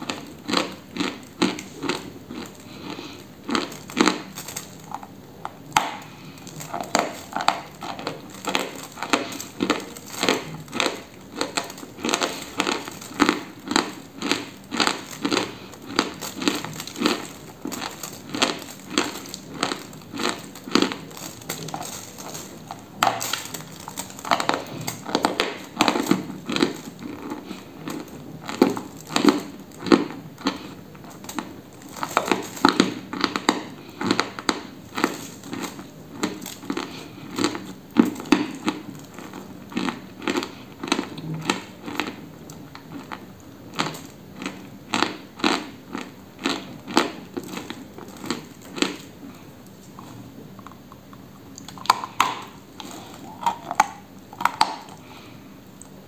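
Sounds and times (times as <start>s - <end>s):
chalk crunching while chewed: 0.0s - 56.0s.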